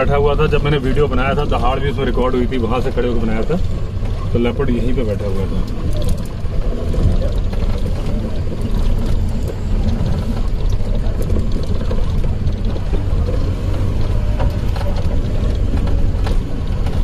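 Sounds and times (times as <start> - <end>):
engine and drivetrain rumble: 0.0 - 17.0
vehicle knocks and rattles: 0.0 - 17.0.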